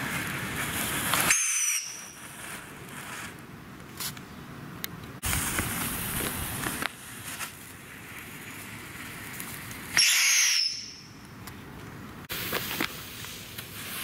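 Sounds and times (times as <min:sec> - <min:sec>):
firework fountain hissing: 0:00.0 - 0:03.5, 0:05.2 - 0:11.2, 0:12.2 - 0:14.0
firework crackles and pops: 0:00.0 - 0:04.1, 0:05.2 - 0:11.4, 0:12.2 - 0:14.0.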